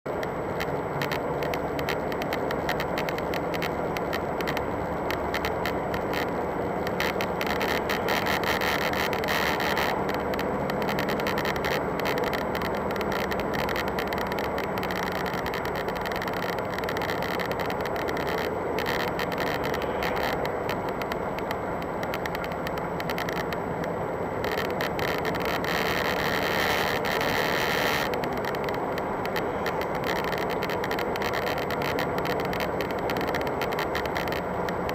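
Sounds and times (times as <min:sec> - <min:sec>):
car cabin noise: 0:00.1 - 0:34.9.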